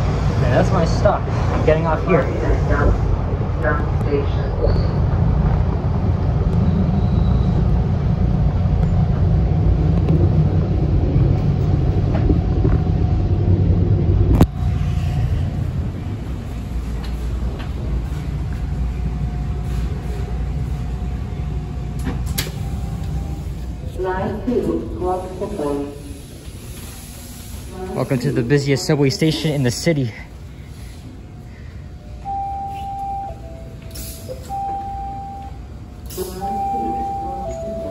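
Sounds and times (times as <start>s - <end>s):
faint steady whine: 0.0s - 37.9s
subway train rumbling: 0.0s - 37.9s.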